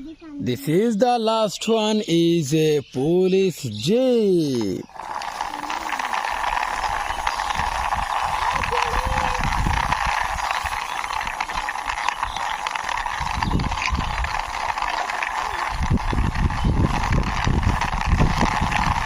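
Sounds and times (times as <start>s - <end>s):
toy wheels rolling and rattling: 3.6s - 19.0s.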